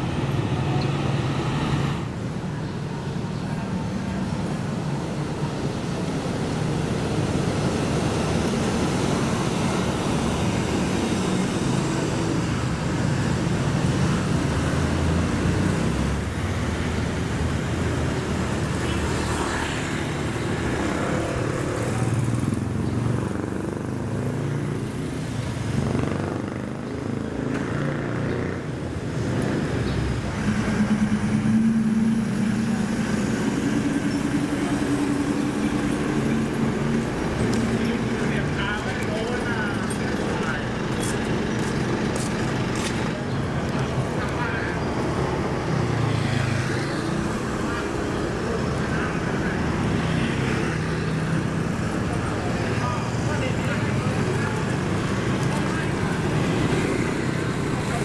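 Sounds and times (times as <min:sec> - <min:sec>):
motorbikes and cars passing: 0:00.0 - 0:58.0.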